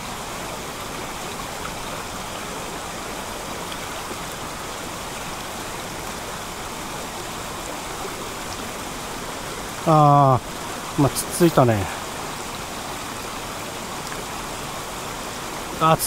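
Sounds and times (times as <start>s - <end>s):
rocky stream rushing: 0.0s - 16.0s.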